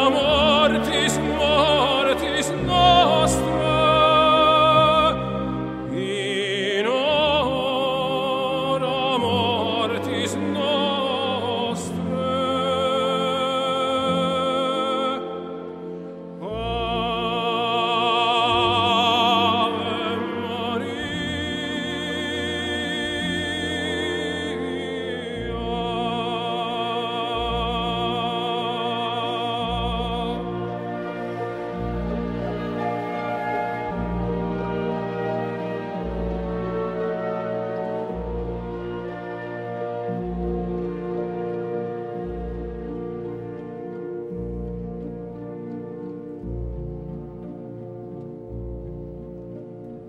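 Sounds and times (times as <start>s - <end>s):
operatic solo voice singing: 0.0s - 43.6s
orchestra playing: 0.0s - 50.0s.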